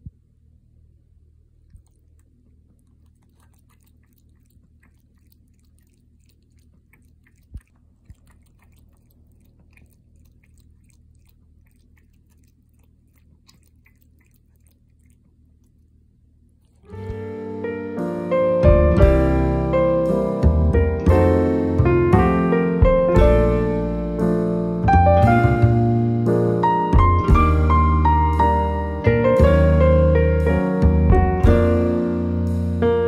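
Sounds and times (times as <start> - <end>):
cat lapping water: 1.4 - 17.6, 18.4 - 30.2.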